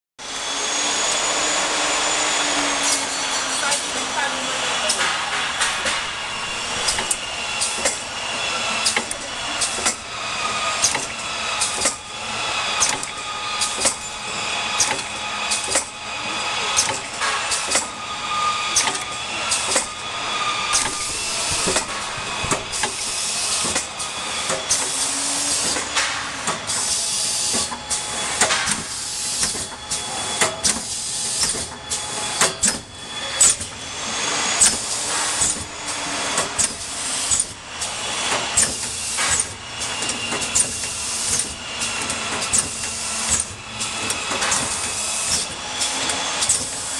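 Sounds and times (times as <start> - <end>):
machine conveyor clacking and knocking: 0.9 - 46.9
pneumatic air hissing: 4.8 - 16.0, 16.6 - 46.9.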